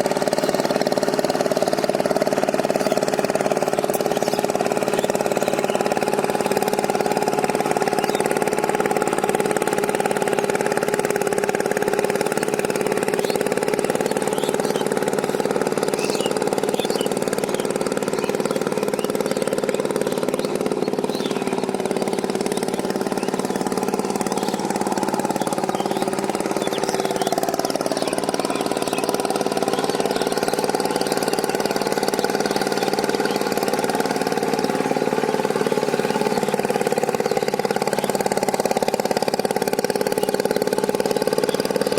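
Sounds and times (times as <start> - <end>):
power tiller engine running: 0.0 - 41.9.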